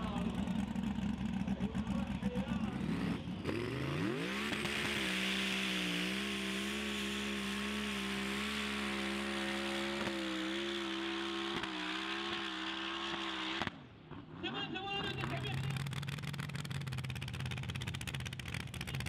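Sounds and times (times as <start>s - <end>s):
turbocharged engine at full throttle: 0.0s - 14.4s, 15.0s - 19.0s.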